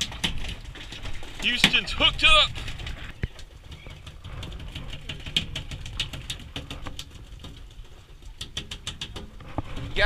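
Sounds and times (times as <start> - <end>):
fishing gear clicking and rattling: 0.0 - 10.0.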